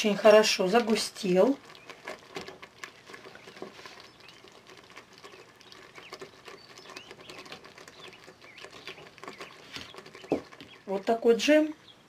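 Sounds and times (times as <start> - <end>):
ladle clicking and scraping in bowl: 0.0 - 10.9.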